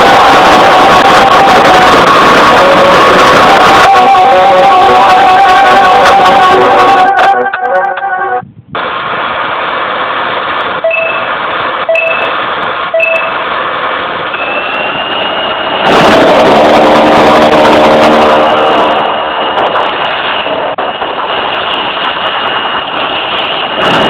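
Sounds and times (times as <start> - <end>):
jet engine whine and rush: 0.0 - 24.0.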